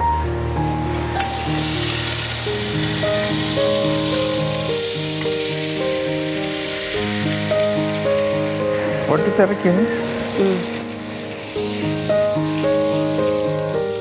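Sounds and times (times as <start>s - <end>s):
background music with held notes: 0.0s - 14.0s
butter sizzling in a pan: 1.1s - 14.0s.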